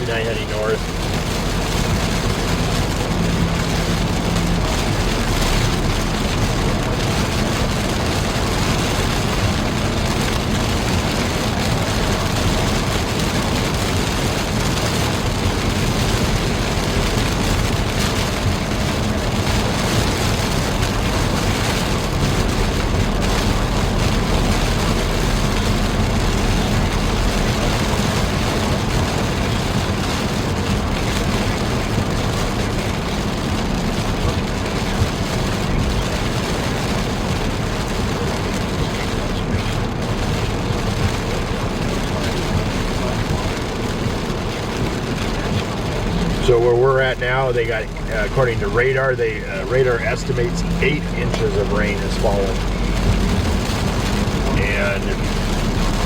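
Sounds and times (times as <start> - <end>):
car interior road and engine noise: 0.0 - 56.0.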